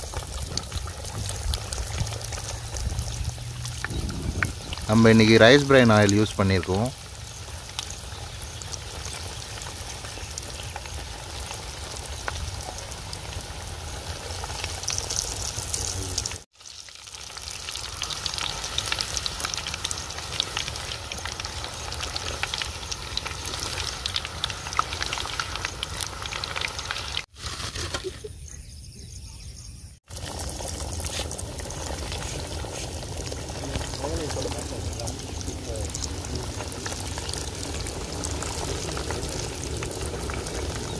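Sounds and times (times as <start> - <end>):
oil sizzling and crackling: 0.0 - 27.9, 30.0 - 40.9.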